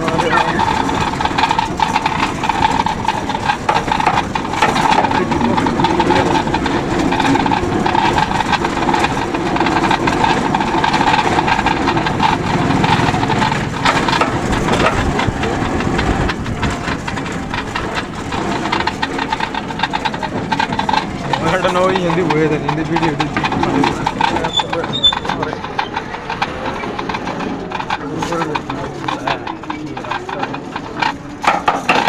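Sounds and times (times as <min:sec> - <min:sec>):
road noise: 0:00.0 - 0:32.0
vehicle engine running: 0:00.0 - 0:32.0.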